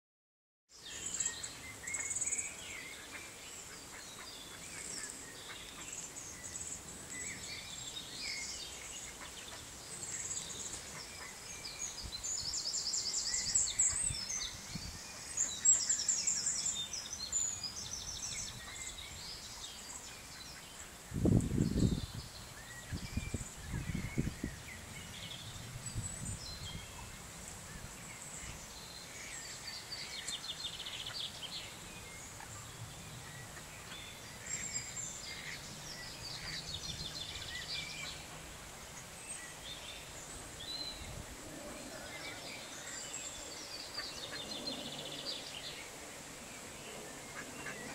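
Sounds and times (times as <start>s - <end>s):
songbirds singing and chirping: 0.7s - 47.9s.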